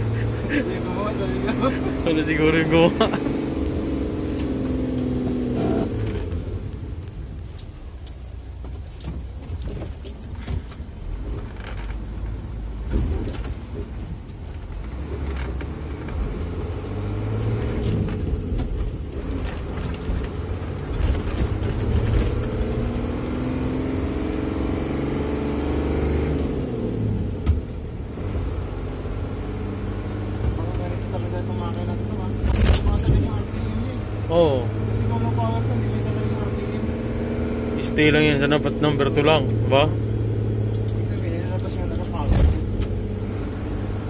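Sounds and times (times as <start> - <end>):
diesel truck engine driving: 0.0 - 44.0.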